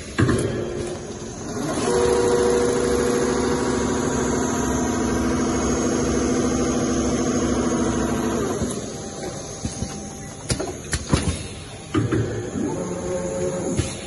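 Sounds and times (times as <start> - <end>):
stitching machine hum and whir: 0.0 - 14.0.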